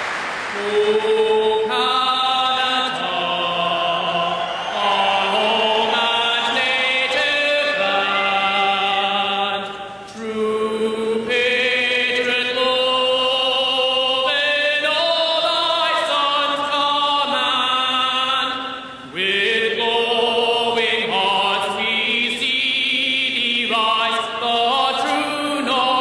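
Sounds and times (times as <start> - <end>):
crowd singing along: 0.0 - 26.0
man singing solo: 0.6 - 26.0.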